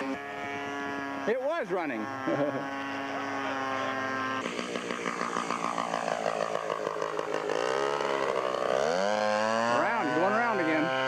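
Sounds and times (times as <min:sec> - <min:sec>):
model airplane engine buzzing: 0:00.0 - 0:11.0.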